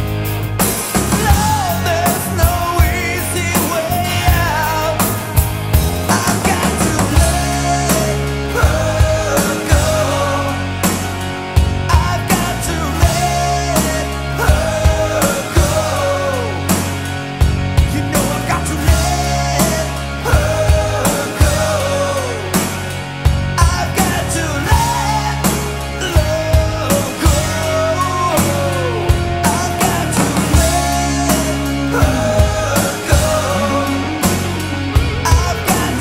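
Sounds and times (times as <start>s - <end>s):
bass: 0.0s - 36.0s
bending lead melody: 0.0s - 36.0s
drum kit beat: 0.0s - 36.0s.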